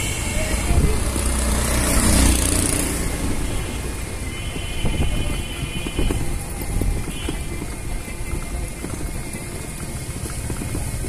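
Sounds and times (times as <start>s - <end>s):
auto-rickshaw engine passing: 0.0s - 11.0s
vehicle engine and road noise: 0.0s - 11.0s.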